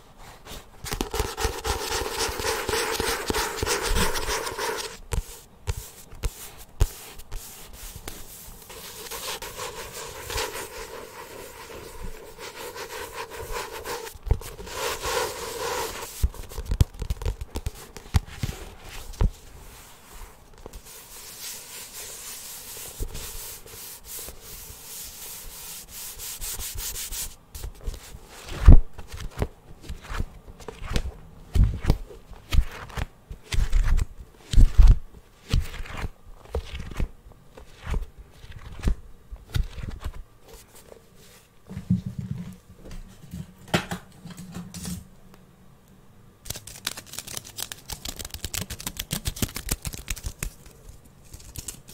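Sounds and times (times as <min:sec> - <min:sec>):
rubbing and scratching on a surface: 0:00.2 - 0:42.4, 0:46.5 - 0:51.9.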